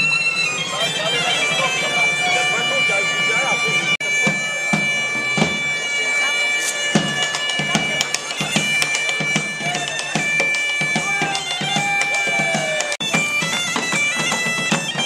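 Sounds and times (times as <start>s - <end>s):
bagpipes playing over drone: 0.0s - 15.0s
drum beating: 0.4s - 5.8s, 6.6s - 15.0s.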